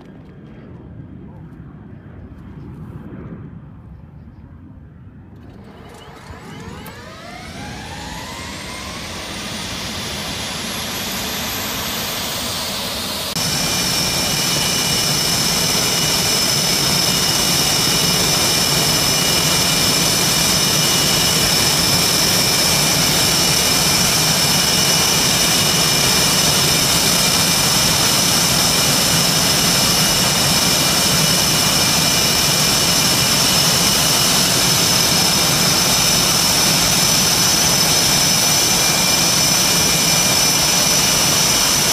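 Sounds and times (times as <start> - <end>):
jet engines whining: 0.0 - 41.9.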